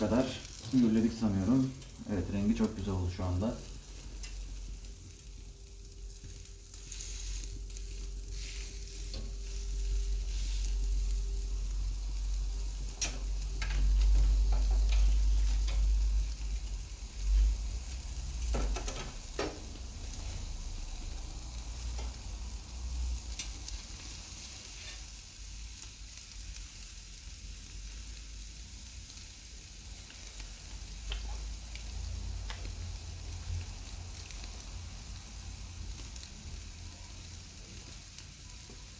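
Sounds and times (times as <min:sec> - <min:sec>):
steak sizzling on a grill: 0:00.0 - 0:38.9.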